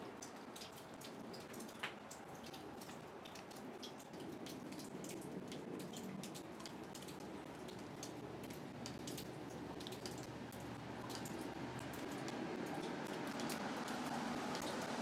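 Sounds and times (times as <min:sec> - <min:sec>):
raindrops tapping and dripping: 0:00.0 - 0:15.0.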